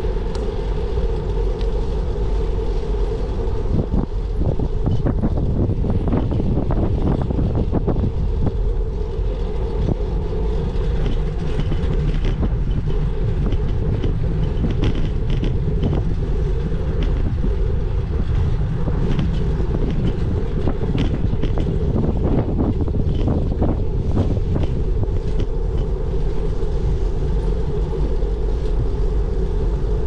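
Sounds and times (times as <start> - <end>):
wind on microphone: 0.0 - 30.0
bicycle rattling on road: 3.6 - 30.0.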